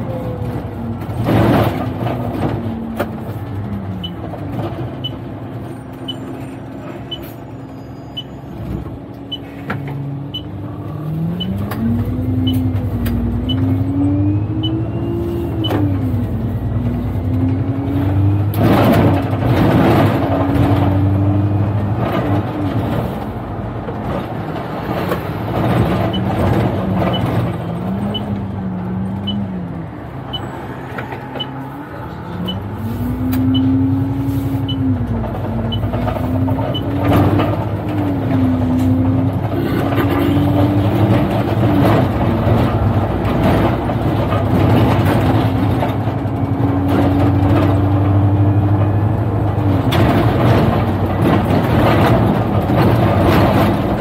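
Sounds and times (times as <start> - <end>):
bus engine driving: 0.0 - 54.0.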